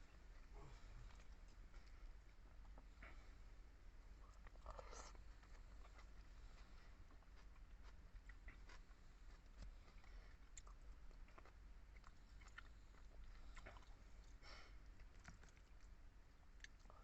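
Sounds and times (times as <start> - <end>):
close-up chewing: 0.1 - 17.0.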